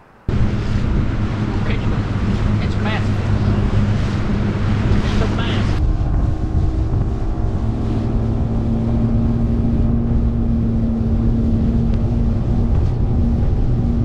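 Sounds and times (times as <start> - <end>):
outboard motor running: 0.3 - 14.0.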